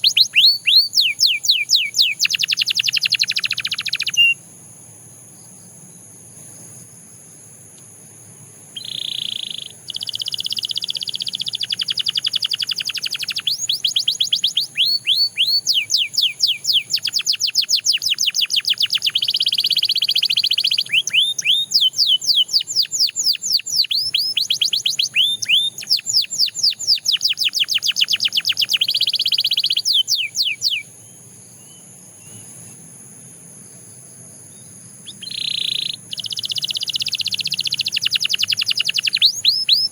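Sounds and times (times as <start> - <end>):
canary singing trills: 0.0 - 4.4, 8.7 - 32.8, 34.5 - 39.9.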